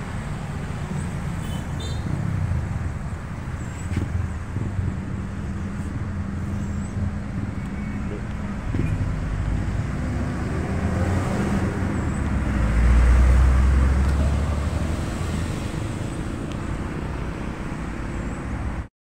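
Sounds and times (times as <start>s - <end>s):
heavy vehicle engine rumble: 0.0s - 18.9s
road traffic: 0.0s - 18.9s.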